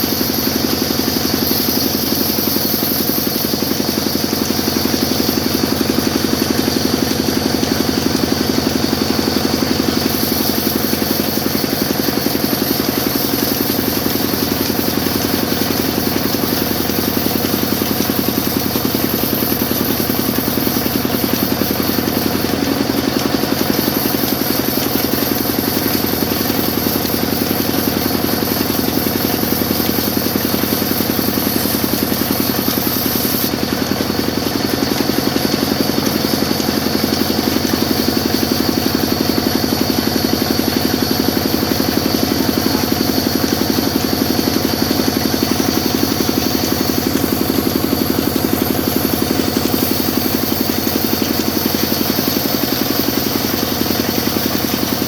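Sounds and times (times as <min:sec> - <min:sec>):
sawmill machine droning: 0:00.0 - 0:55.0.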